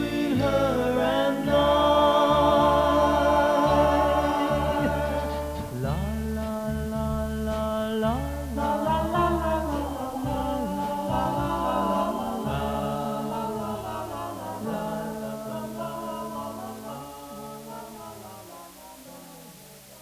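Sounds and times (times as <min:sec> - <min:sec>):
pop ballad vocal harmonies: 0:00.0 - 0:18.5.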